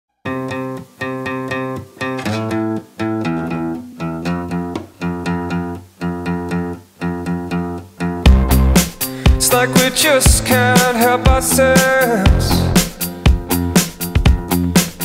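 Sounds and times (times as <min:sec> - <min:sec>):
plucked guitar-like chords: 0:00.2 - 0:15.0.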